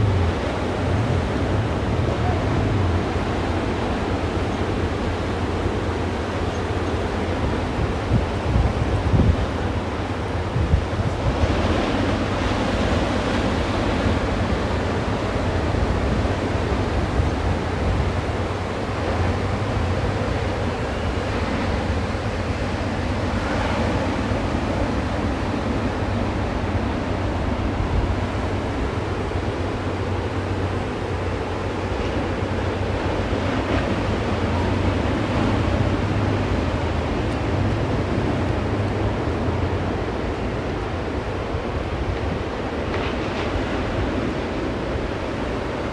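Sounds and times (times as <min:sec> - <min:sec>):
ocean surf roaring: 0:00.0 - 0:45.9
wind rumbling on microphone: 0:00.0 - 0:45.9.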